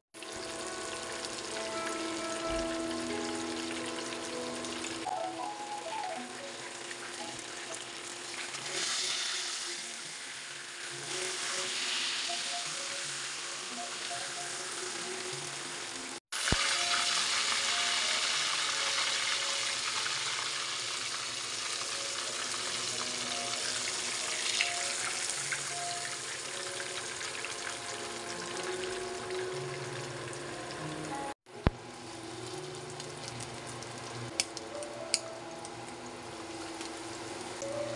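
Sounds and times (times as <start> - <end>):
cutlets sizzling in frying oil: 5.8 - 37.9.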